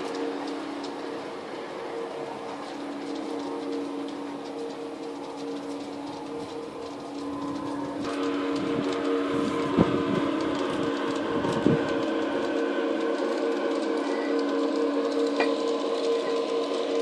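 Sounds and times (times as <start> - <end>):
model locomotive electric hum: 0.0 - 17.0.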